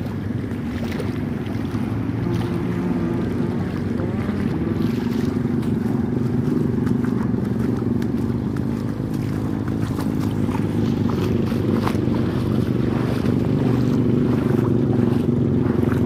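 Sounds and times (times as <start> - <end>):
vehicle engine running: 0.0 - 16.0
water splashing and sloshing: 0.0 - 16.0.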